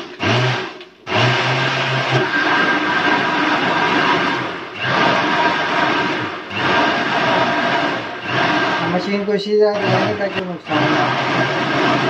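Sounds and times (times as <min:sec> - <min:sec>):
electric blender running: 0:00.0 - 0:12.0.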